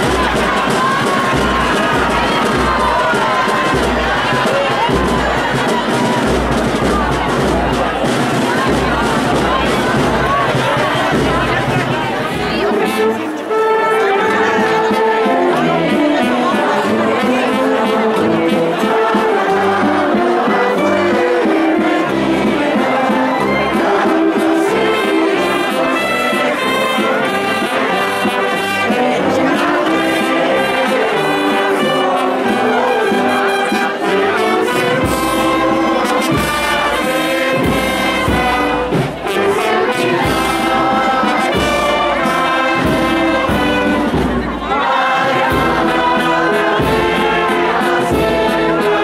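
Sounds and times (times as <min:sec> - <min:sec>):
heavy low drum beats: 0:00.0 - 0:13.1, 0:14.4 - 0:49.0
brass band playing a march: 0:00.0 - 0:49.0.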